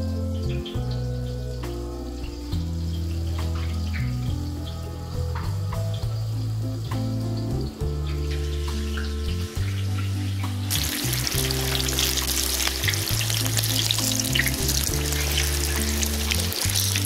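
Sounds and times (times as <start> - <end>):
background music with low notes: 0.0 - 17.0
deep-frying crackling sizzle: 0.0 - 17.0.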